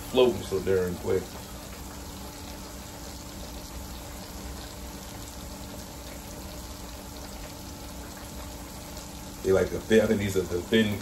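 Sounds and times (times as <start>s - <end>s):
low steady hum: 0.0s - 11.0s
meat sizzling in hot oil: 0.0s - 11.0s.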